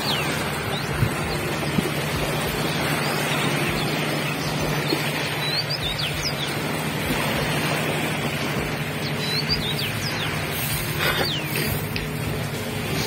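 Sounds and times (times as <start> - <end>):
constant rushing noise: 0.0 - 13.0
songbirds chirping: 0.0 - 13.0.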